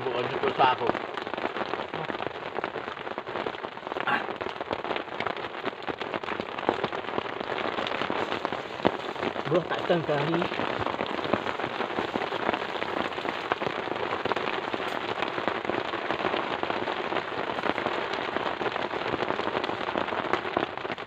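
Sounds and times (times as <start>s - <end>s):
heavy rain on a surface: 0.0s - 21.0s.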